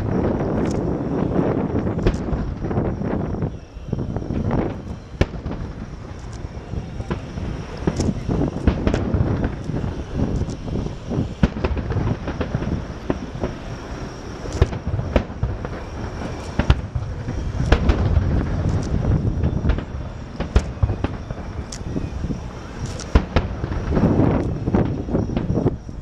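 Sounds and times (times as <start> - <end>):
fireworks cracking and banging: 0.0 - 26.0
rumble of bursting shells: 0.0 - 26.0.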